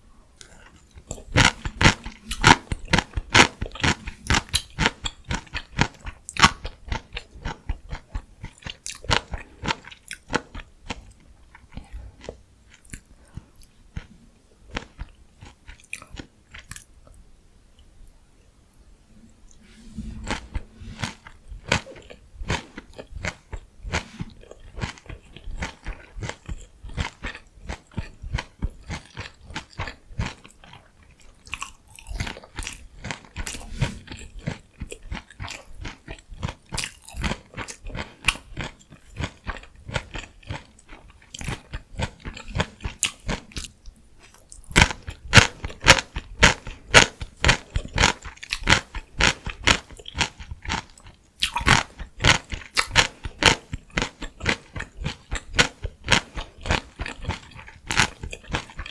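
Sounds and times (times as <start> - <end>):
crunchy chewing: 0.4 - 17.2, 19.5 - 58.9.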